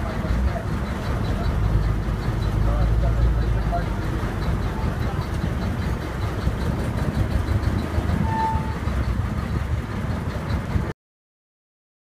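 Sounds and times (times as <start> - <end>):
boat engine drone: 0.0 - 10.9.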